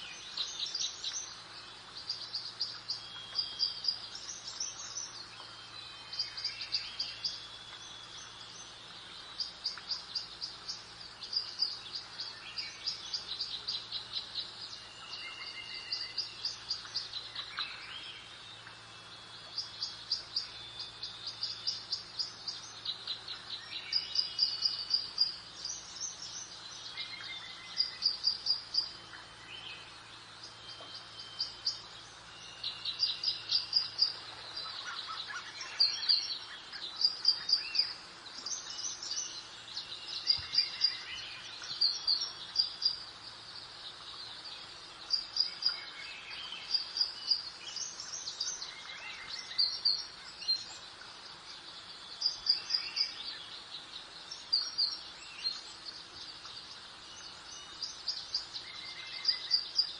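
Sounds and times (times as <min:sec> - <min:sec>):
breeze hiss: 0:00.0 - 0:59.9
songbirds chirping: 0:00.0 - 0:59.9.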